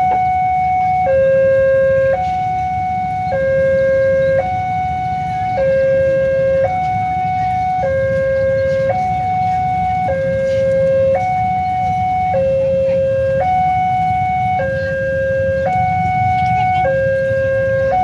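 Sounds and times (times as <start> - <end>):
level-crossing two-tone alarm: 0.0 - 18.0.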